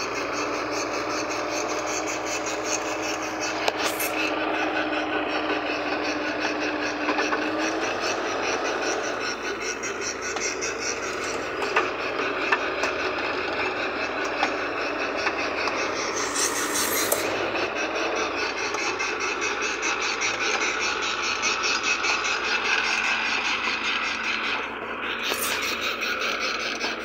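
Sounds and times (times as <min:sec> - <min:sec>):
truck engine under load: 0:00.0 - 0:27.0.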